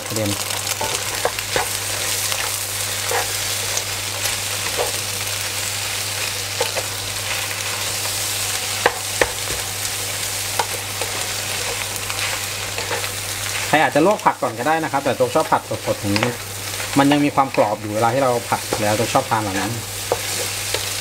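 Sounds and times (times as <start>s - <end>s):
oil sizzling in a wok: 0.0s - 21.0s.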